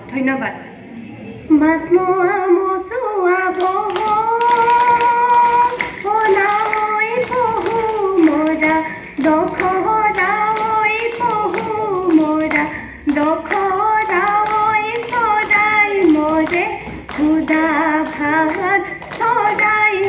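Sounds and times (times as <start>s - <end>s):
woman singing: 1.5s - 20.0s
sharp taps keeping a beat: 3.5s - 20.0s.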